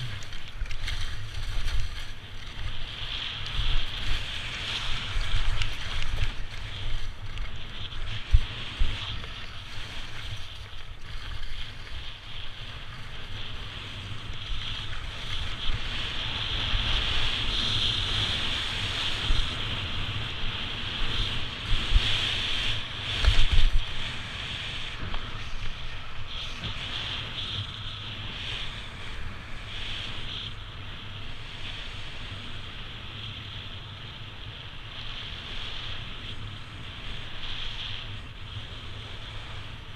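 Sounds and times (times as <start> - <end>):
skis sliding over snow: 0.0 - 39.9
wind buffeting microphone: 0.0 - 39.9.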